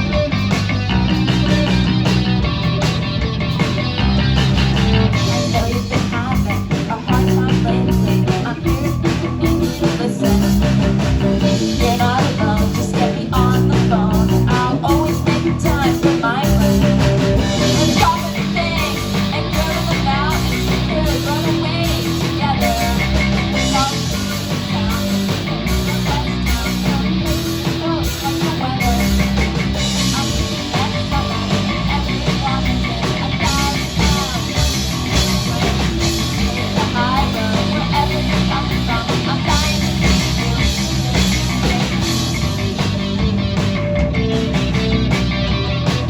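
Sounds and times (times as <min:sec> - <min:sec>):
electric guitar: 0:00.0 - 0:46.0
rock band playing live: 0:00.0 - 0:46.0.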